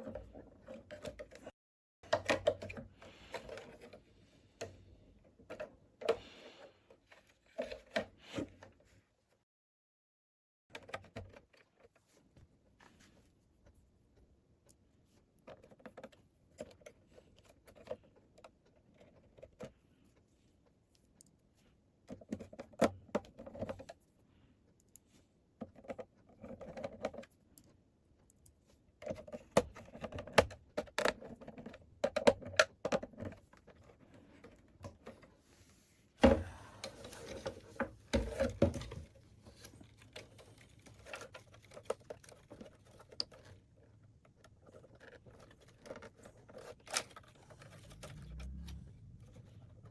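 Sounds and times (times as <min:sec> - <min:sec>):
clicks and rattles of plastic: 0:00.0 - 0:08.8, 0:10.7 - 0:13.0, 0:13.6 - 0:21.4, 0:22.0 - 0:24.1, 0:24.9 - 0:35.4, 0:36.3 - 0:49.9.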